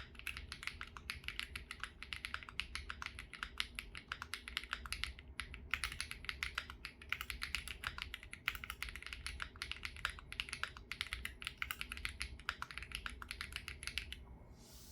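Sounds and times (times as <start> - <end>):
mechanical keyboard typing: 0.0 - 14.2.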